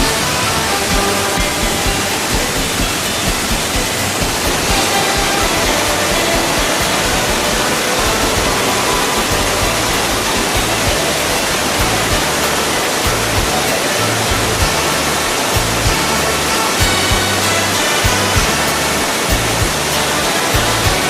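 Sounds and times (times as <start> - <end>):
background song with bass: 0.0 - 21.0
waterfall roaring: 0.0 - 21.0.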